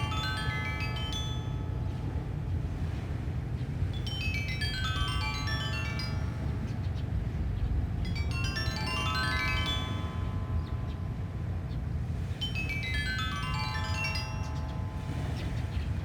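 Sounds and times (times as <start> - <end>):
stone xylophone runs: 0.0 - 2.2, 4.0 - 6.9, 8.1 - 16.0
low wind rumble: 0.0 - 16.0.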